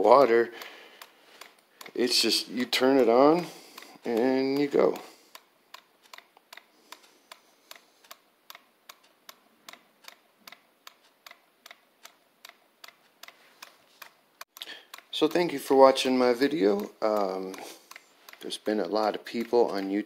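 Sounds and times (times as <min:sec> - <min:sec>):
solenoid engine clicking: 0:00.0 - 0:20.0.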